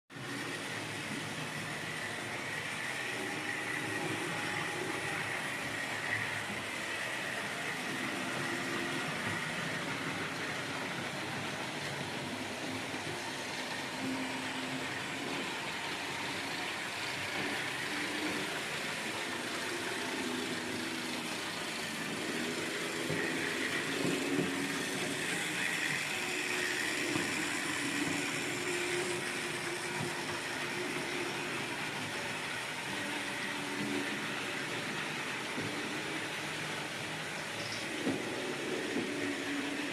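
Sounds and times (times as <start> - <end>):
model train motors humming: 0.1 - 39.9
wheels rolling on track: 0.1 - 39.9.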